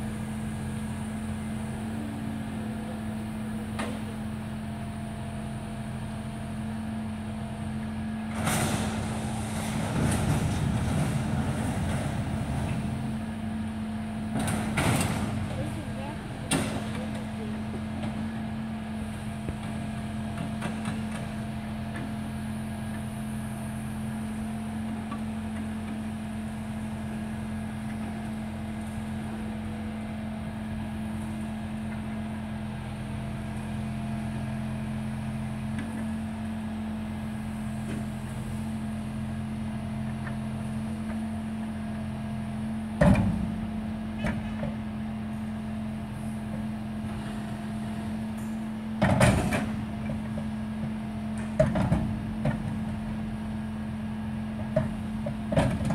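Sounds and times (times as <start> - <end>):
truck engine and hydraulics droning: 0.0 - 55.9.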